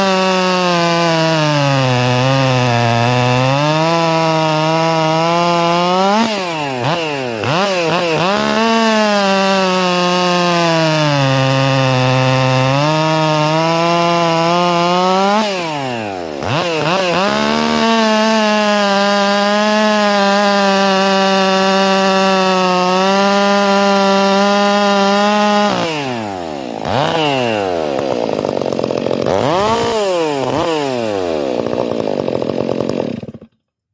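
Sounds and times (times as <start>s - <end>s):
chainsaw cutting wood: 0.0s - 33.7s.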